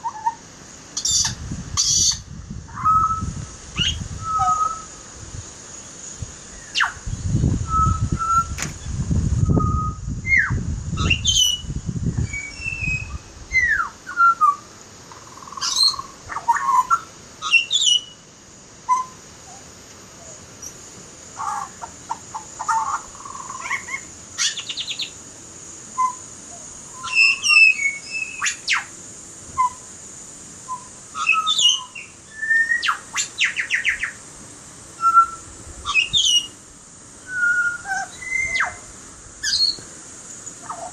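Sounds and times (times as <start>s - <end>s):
steady high hiss: 0.0s - 40.9s
bird singing whistled notes and trills: 1.0s - 5.0s, 5.7s - 18.3s, 18.9s - 19.6s, 21.4s - 25.2s, 26.0s - 28.9s, 29.5s - 29.9s, 30.6s - 34.2s, 35.0s - 36.6s, 37.2s - 40.9s.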